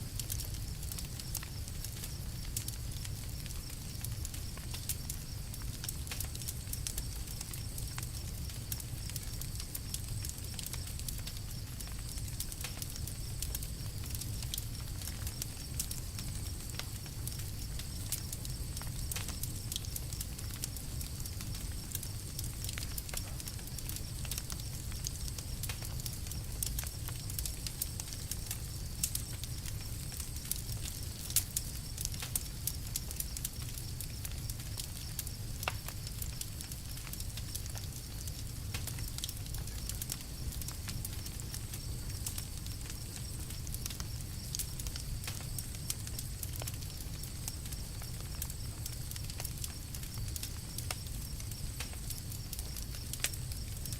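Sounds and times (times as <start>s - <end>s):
campfire crackling: 0.0s - 53.9s
low fire rumble: 0.0s - 53.9s.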